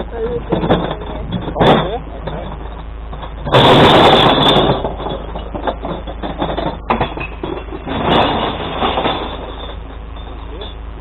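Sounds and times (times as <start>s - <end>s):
glass bottles clattering: 0.0s - 10.8s.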